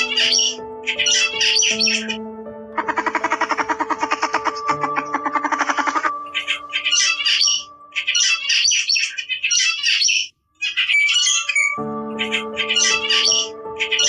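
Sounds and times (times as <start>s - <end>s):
high-pitched bird-like squawking: 0.0s - 2.2s, 2.8s - 14.0s.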